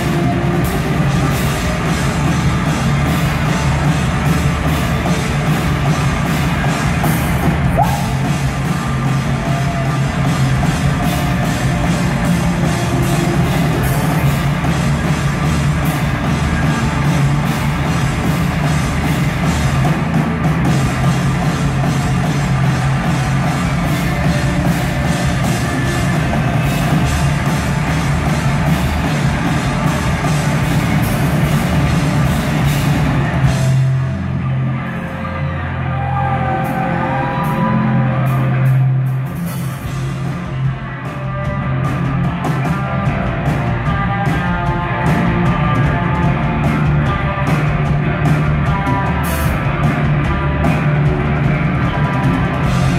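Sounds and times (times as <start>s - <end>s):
drums and cymbals: 0.0s - 52.9s
heavy rock band playing: 0.0s - 52.9s.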